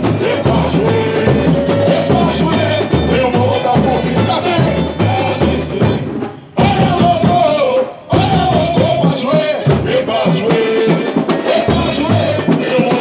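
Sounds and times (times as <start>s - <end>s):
deep regular drum beat: 0.0s - 13.0s
man singing into a microphone: 0.0s - 13.0s.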